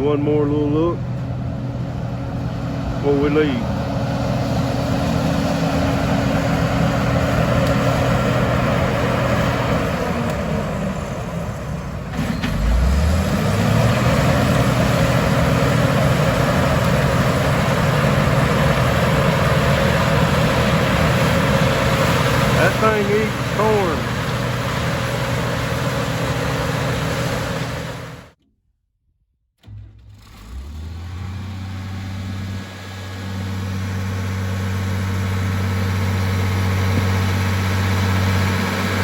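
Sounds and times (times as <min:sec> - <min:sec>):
combine harvester engine running: 0:00.0 - 0:28.4, 0:30.2 - 0:39.0.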